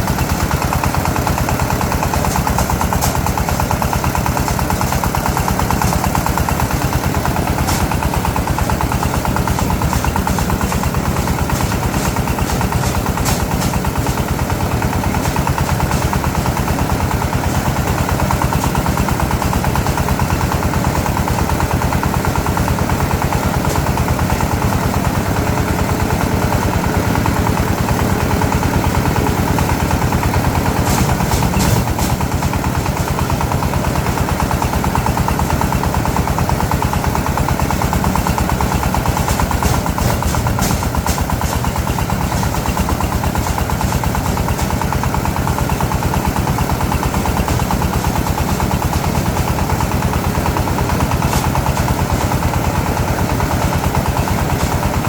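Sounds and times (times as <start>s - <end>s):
sharp rattling bursts: 0.0s - 55.0s
small engine running: 0.0s - 55.0s.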